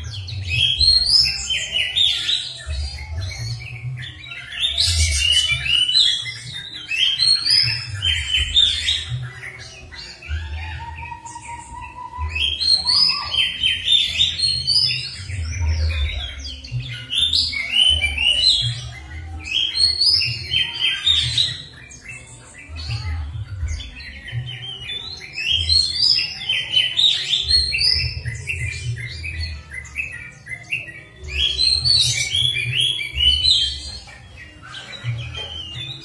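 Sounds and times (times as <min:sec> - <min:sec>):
songbird singing: 0:00.0 - 0:36.0.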